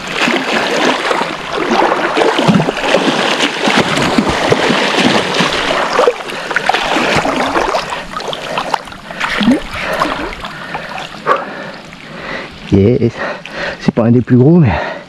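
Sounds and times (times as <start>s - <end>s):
fish splashing in shallow water: 0.0s - 13.8s.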